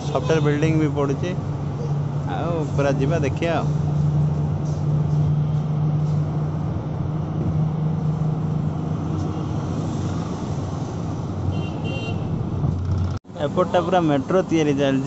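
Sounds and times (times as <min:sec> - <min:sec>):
bus low hum: 0:00.0 - 0:15.0
road noise: 0:00.0 - 0:15.0.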